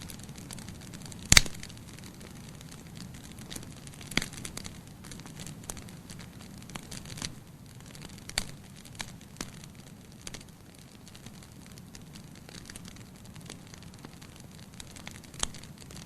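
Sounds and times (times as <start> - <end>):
campfire crackling and popping: 0.0 - 16.0
low steady hiss of fire: 0.0 - 16.0.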